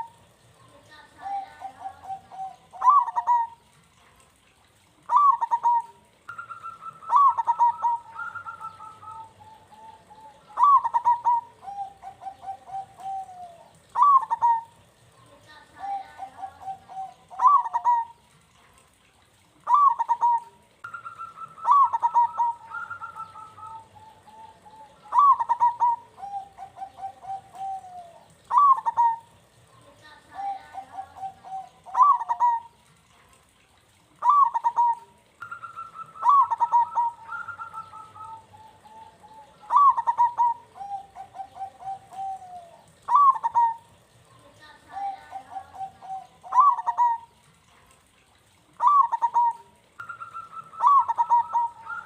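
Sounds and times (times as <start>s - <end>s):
dove cooing: 0.0s - 3.7s, 4.9s - 33.3s, 34.1s - 52.0s.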